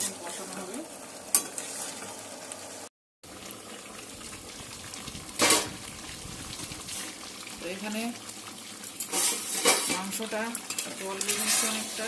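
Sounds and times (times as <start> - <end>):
curry bubbling in a pan: 0.0 - 12.0.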